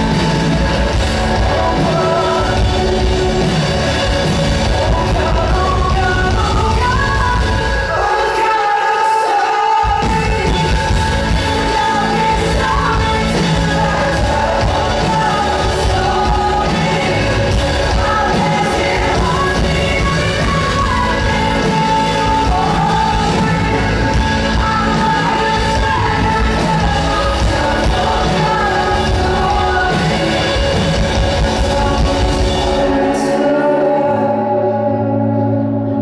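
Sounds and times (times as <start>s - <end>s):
live rock band playing: 0.0s - 36.0s
person singing: 0.0s - 36.0s.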